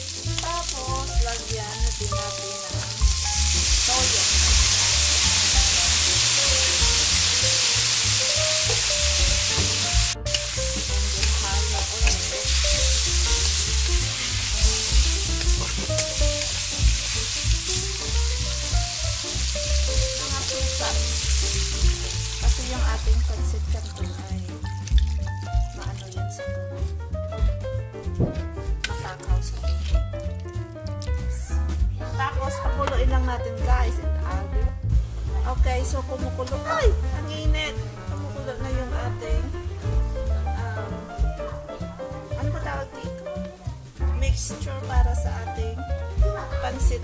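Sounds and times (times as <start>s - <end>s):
meat and onions sizzling in wok: 0.0s - 26.2s, 28.3s - 47.0s.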